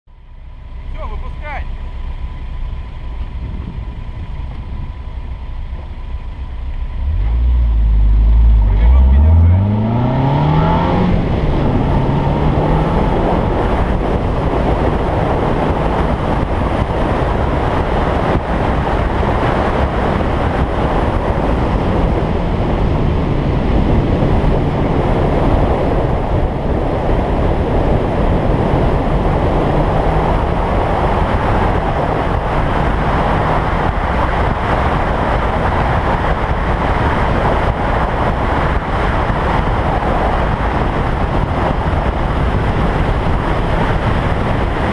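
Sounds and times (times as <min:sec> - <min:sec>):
car engine pulling at speed: 0:00.4 - 0:44.9
wind rushing: 0:07.2 - 0:44.9.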